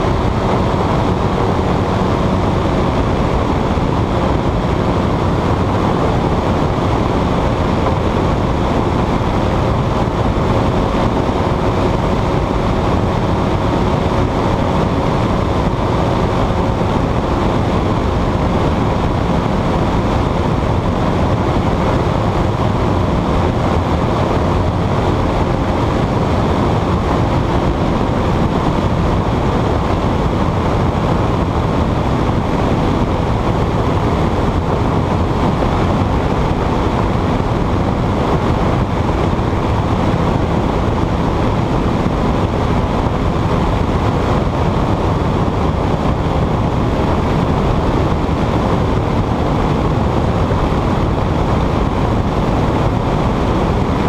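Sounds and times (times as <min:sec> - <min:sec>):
engine and propeller droning: 0:00.0 - 0:54.0
wind rushing over microphone: 0:00.0 - 0:54.0.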